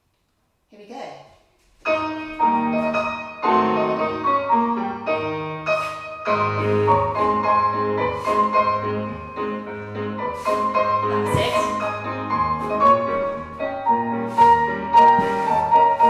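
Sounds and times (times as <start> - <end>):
piano music: 1.8 - 16.0.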